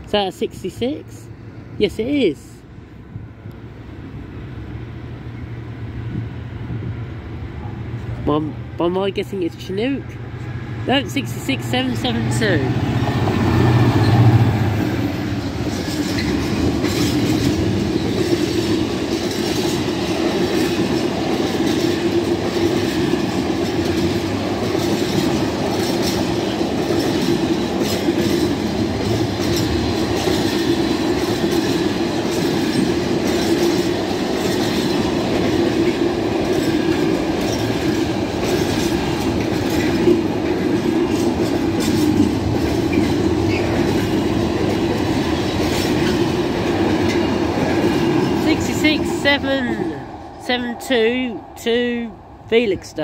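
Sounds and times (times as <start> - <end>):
train wagons rolling on rails: 5.1 - 53.0.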